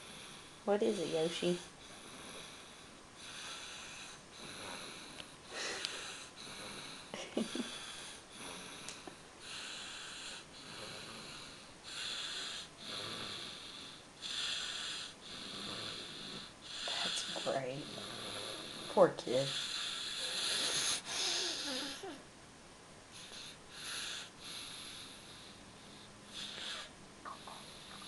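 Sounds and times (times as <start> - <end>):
baby snoring: 0.0 - 22.2, 23.1 - 28.0.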